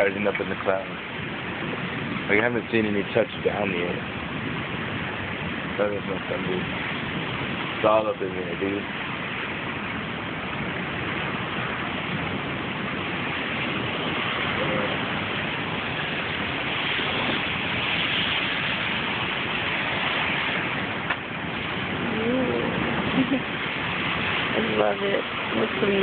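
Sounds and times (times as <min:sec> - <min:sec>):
heavy rain hiss: 0:00.0 - 0:26.0.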